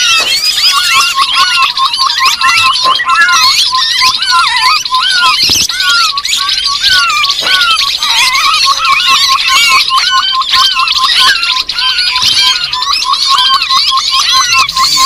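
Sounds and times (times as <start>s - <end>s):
babbler whistled calls: 0.0s - 15.0s
chattering bird chirps: 0.0s - 15.0s.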